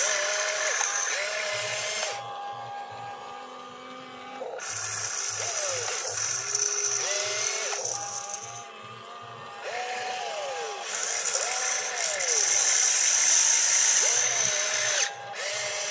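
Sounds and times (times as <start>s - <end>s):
electric motors whining: 0.0s - 15.9s.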